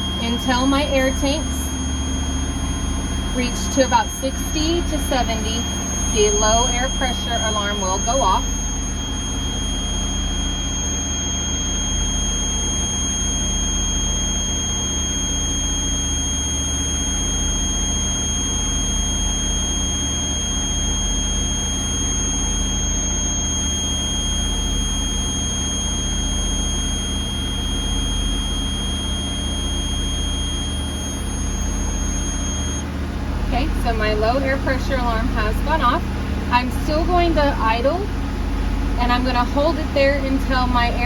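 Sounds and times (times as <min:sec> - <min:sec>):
high-pitched alarm tone: 0:00.0 - 0:41.0.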